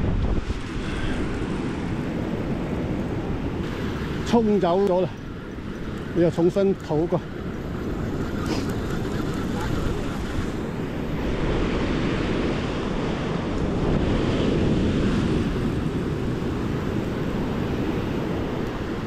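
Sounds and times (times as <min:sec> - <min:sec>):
surf breaking on shore: 0:00.0 - 0:05.2, 0:06.0 - 0:19.0
wind buffeting microphone: 0:00.0 - 0:19.0.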